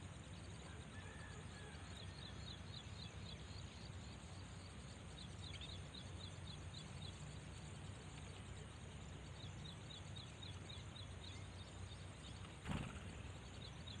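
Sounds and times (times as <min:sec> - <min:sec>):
faint steady hum: 0:00.0 - 0:14.0
small birds chirping: 0:02.0 - 0:14.0.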